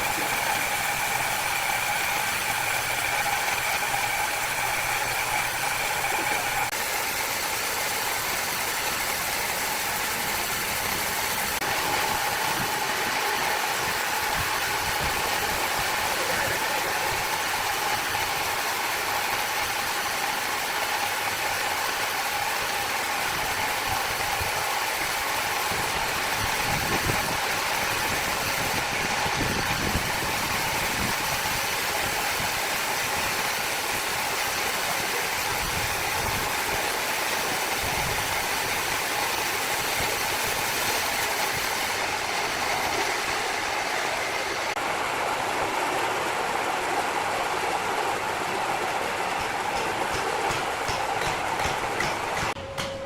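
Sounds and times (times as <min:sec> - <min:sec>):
saw machine drone and whine: 0:00.0 - 0:53.0.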